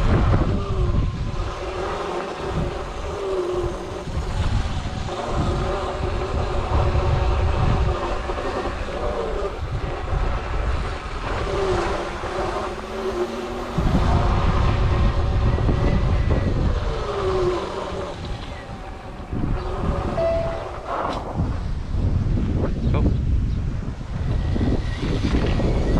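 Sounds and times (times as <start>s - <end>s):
electric dirt bike motors whining: 0.0s - 25.9s
wind buffeting on microphone: 0.0s - 25.9s.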